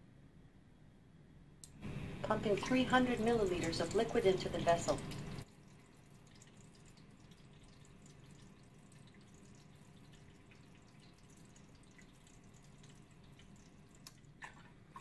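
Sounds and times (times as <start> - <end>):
small pump humming: 1.6 - 15.0
water trickling and dripping: 2.2 - 15.0.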